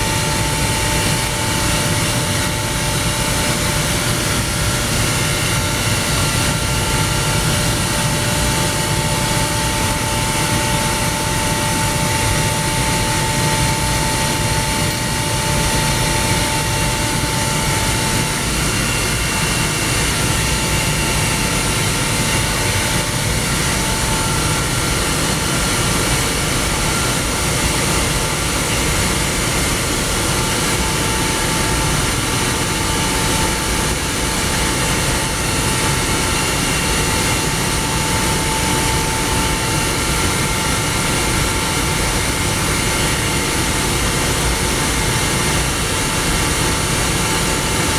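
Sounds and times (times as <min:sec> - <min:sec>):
air compressor rumble: 0:00.0 - 0:47.9
high whine: 0:00.0 - 0:47.9.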